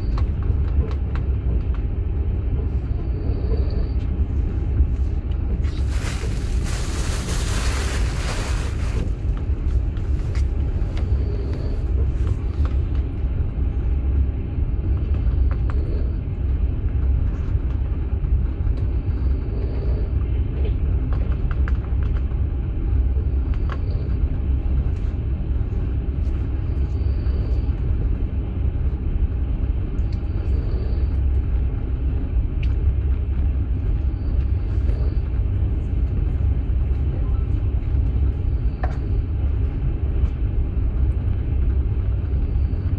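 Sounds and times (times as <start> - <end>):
moving train rumble: 0.0 - 42.9.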